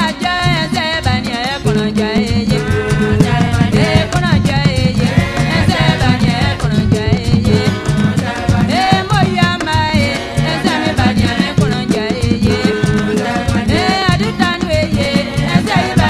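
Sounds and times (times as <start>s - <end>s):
percussion: 0.0s - 16.0s
person singing: 0.0s - 16.0s
bass line: 1.7s - 9.4s, 10.3s - 16.0s.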